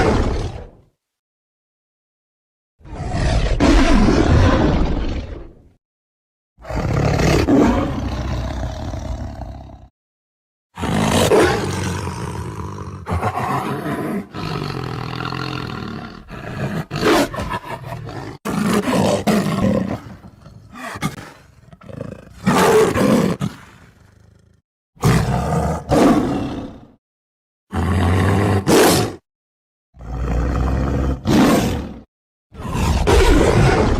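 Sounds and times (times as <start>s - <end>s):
tiger roaring and growling: 0.0s - 0.8s, 2.8s - 5.7s, 6.6s - 9.9s, 10.8s - 27.0s, 27.7s - 29.2s, 30.0s - 33.9s.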